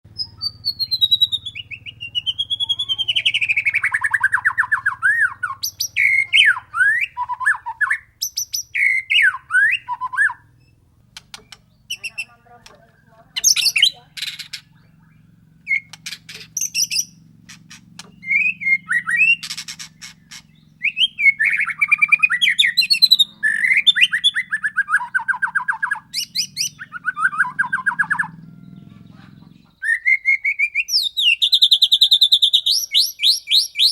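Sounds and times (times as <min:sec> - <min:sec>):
bird singing whistled phrases: 0:00.1 - 0:12.3, 0:13.4 - 0:17.2, 0:18.0 - 0:28.7, 0:29.6 - 0:33.9
faint low hum: 0:00.1 - 0:30.0
sharp bird chips and clicks: 0:00.1 - 0:33.9.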